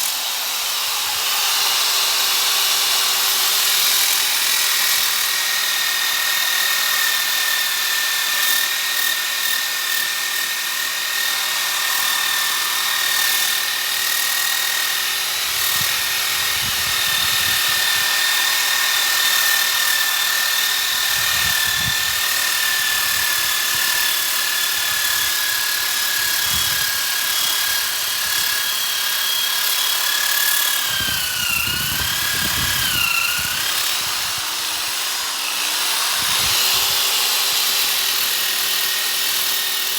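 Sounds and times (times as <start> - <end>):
electric drill sanding wood: 0.0 - 39.9.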